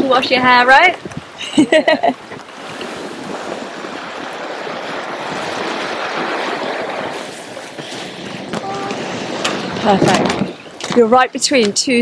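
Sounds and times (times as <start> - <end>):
sea water rushing past hull: 0.0 - 11.0.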